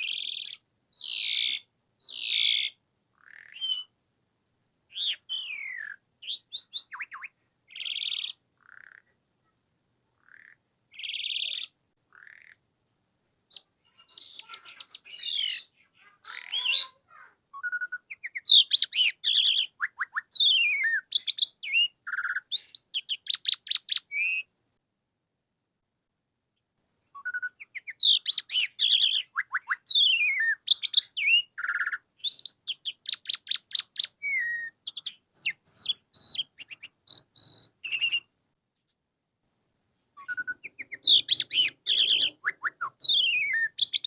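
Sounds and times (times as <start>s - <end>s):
starling singing: 0.0s - 3.9s, 4.9s - 9.6s, 10.2s - 12.6s, 13.5s - 24.5s, 27.2s - 38.3s, 40.2s - 44.0s.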